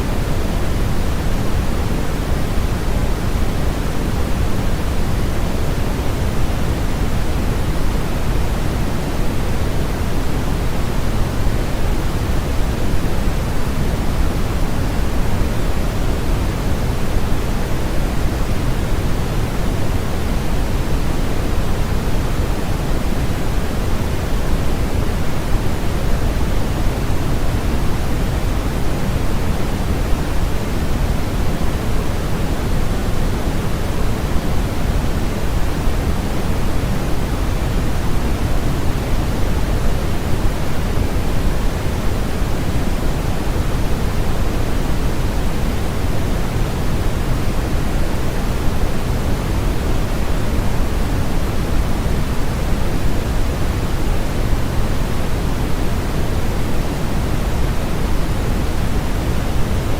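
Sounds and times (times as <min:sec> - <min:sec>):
steady synthetic hiss: 0:00.0 - 0:59.9.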